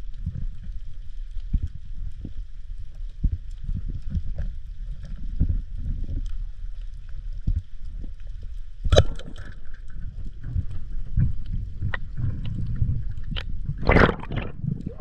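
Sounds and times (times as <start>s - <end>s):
water churning underwater: 0.0s - 15.0s.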